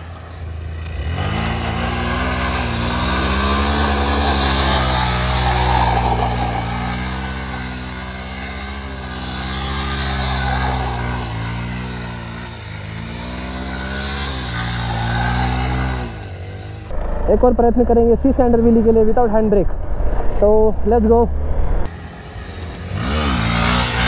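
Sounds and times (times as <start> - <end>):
motorcycle engine revving: 0.0 - 19.1, 21.3 - 24.0.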